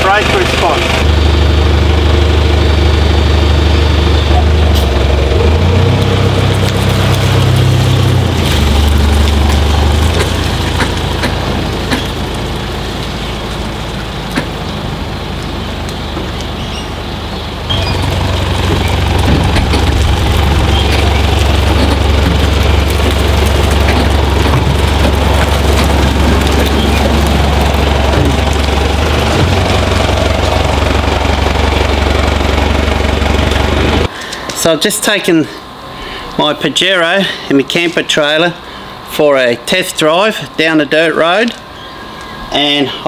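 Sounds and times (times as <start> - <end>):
car engine crawling: 0.0 - 34.7.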